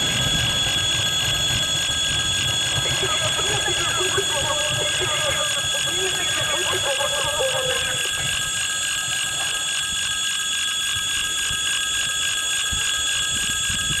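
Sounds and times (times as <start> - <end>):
electric warning bell ringing: 0.0 - 14.0.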